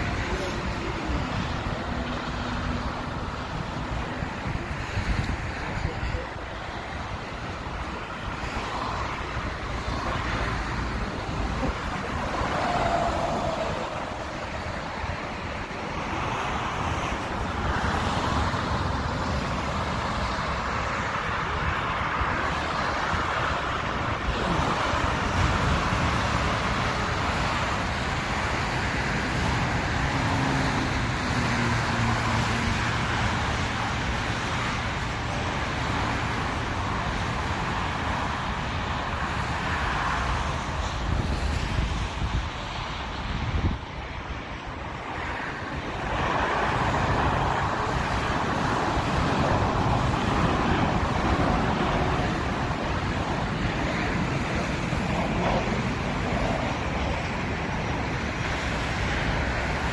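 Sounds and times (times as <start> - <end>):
traffic noise: 0.0 - 59.9.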